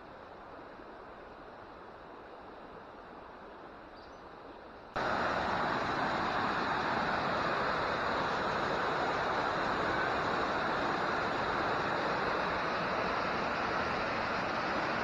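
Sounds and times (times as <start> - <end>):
creek and waterfalls rushing: 0.0 - 15.0.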